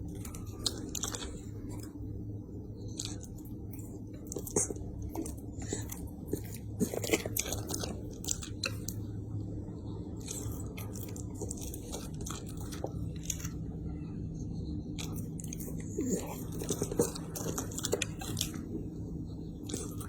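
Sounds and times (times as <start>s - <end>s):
dog crunching a treat: 0.0s - 2.0s, 2.8s - 9.0s, 10.1s - 13.7s, 15.0s - 18.8s, 19.5s - 20.0s.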